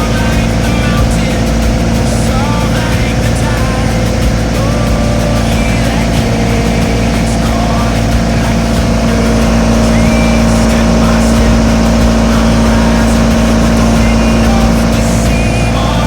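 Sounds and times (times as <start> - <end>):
diesel generator droning: 0.0 - 16.0.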